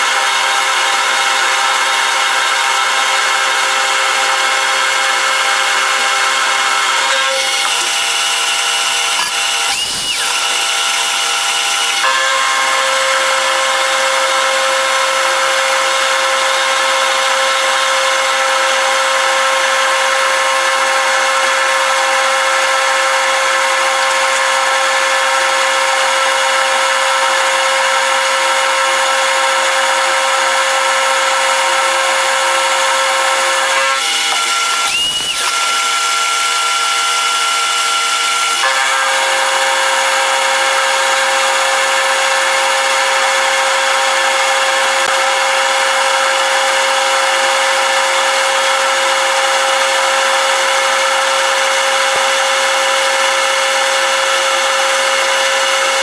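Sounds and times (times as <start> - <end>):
power tool machining steel: 0.0 - 56.0.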